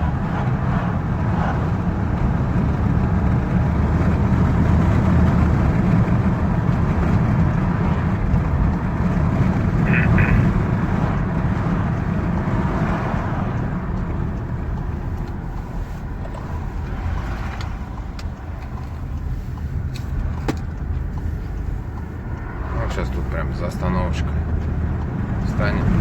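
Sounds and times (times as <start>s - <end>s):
road and engine rumble: 0.0s - 26.0s
sharp clicks: 2.8s - 26.0s.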